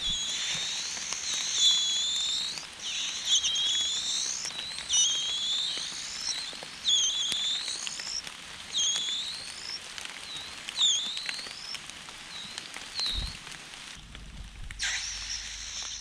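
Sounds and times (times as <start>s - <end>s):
bird calling: 0.0s - 13.4s
faint crackling and clicks: 0.0s - 14.8s.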